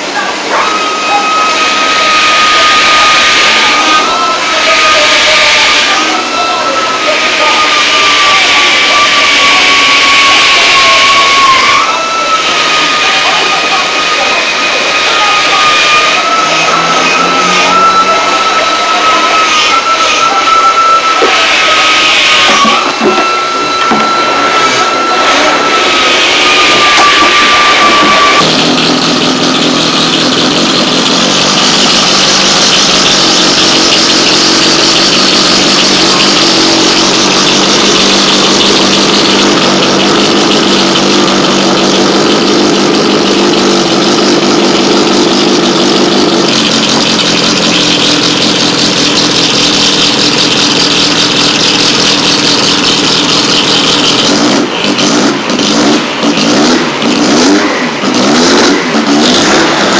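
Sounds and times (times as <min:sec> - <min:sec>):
race car engine running hard: 0:00.0 - 0:20.2, 0:22.4 - 0:59.9.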